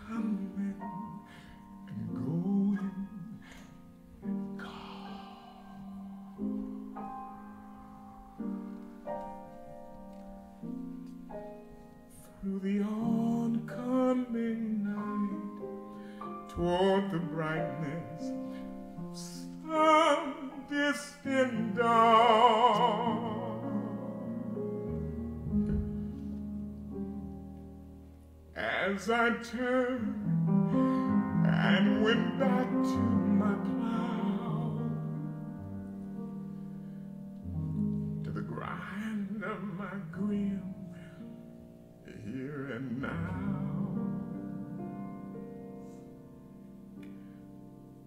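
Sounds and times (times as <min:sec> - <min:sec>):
piano chords: 0:00.0 - 0:48.0.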